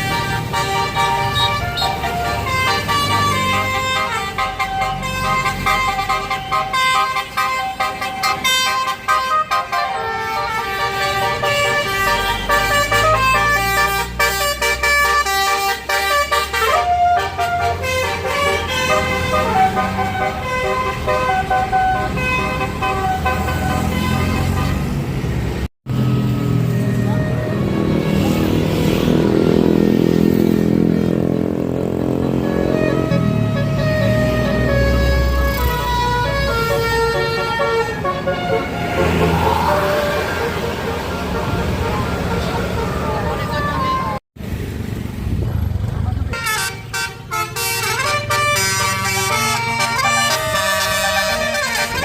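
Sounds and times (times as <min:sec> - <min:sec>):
air horn playing a melody: 0:00.0 - 0:25.0, 0:32.2 - 0:44.1, 0:46.3 - 0:52.0
bus rumbling: 0:00.0 - 0:52.0.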